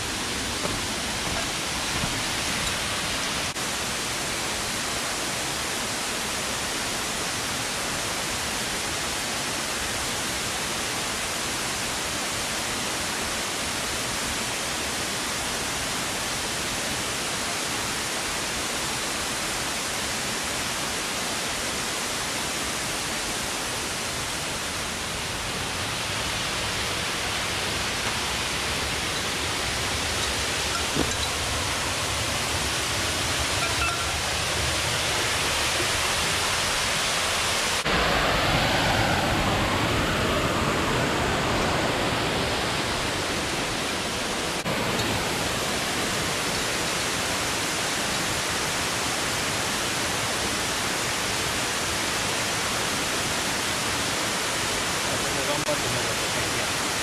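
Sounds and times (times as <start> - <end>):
stream water cascading over rocks: 0.0 - 57.0.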